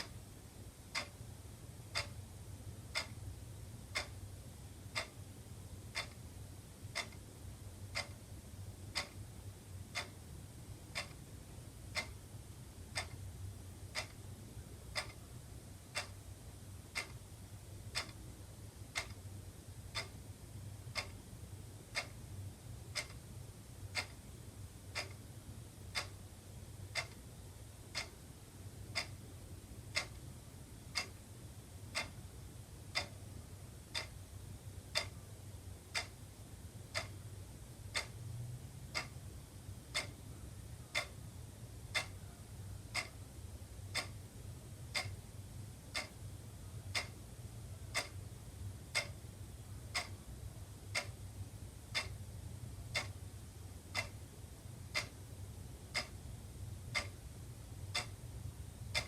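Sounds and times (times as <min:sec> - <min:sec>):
low steady hum: 0:00.0 - 0:59.0
wall clock ticking: 0:00.0 - 0:59.0.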